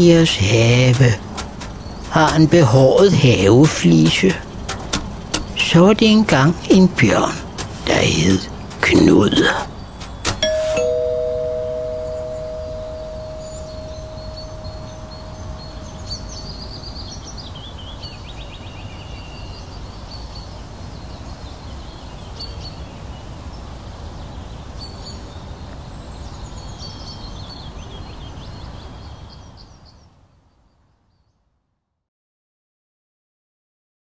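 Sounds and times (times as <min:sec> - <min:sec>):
birds chirping and twittering: 0:00.0 - 0:31.4.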